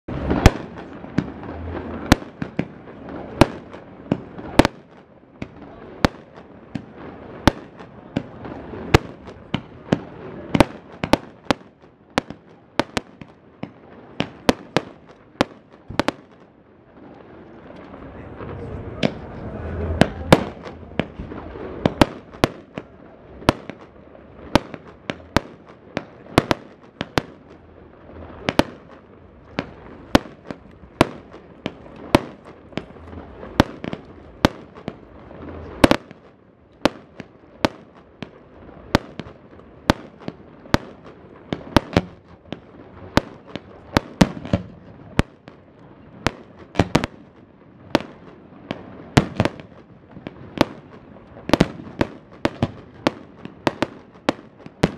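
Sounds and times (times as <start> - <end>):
fireworks bangs: 0.1 - 54.9.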